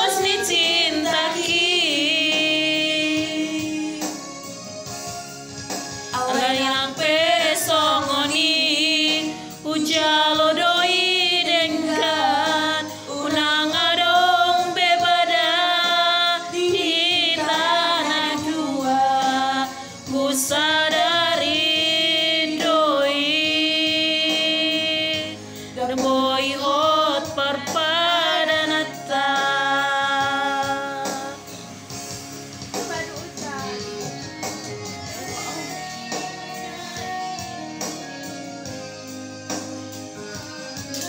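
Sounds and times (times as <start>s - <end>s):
person singing with vibrato: 0.0s - 4.7s, 6.1s - 31.8s, 33.6s - 39.0s
karaoke keyboard backing track: 0.0s - 41.0s.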